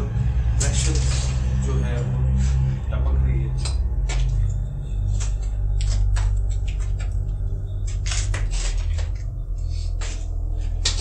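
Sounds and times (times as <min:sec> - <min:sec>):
background music drone: 0:00.0 - 0:11.0.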